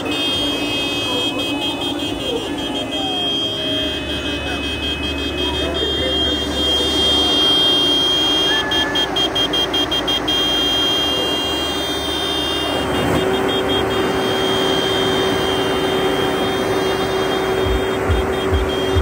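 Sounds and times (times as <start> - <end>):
high electronic tones: 0.0 - 19.0
horn-like tone: 0.0 - 19.0
tractor engines idling: 0.0 - 19.0.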